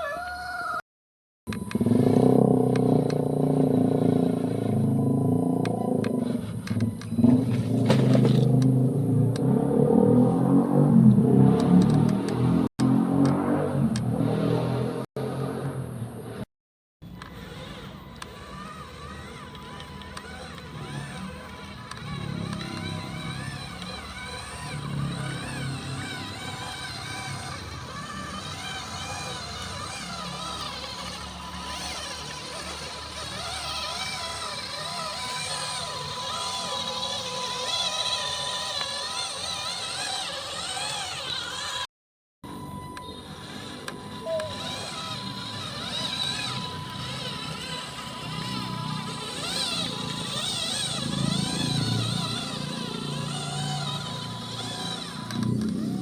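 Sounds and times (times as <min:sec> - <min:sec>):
electric motor and gearbox whining: 0:01.5 - 0:56.0.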